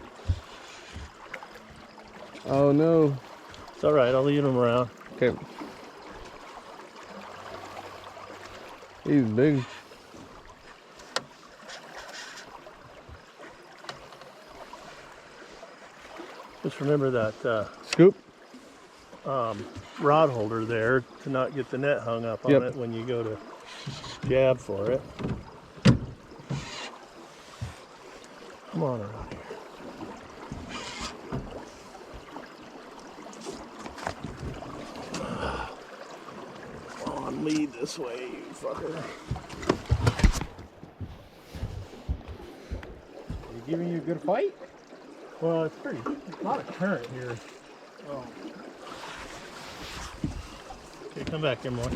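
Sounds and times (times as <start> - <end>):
water sloshing against boat hull: 0.0 - 51.9
wind: 0.0 - 51.9.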